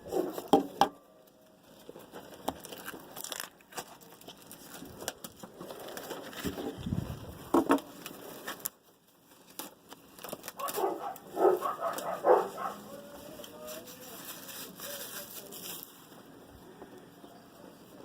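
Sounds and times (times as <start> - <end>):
foil wrappers crinkling and tearing: 0.0 - 16.5.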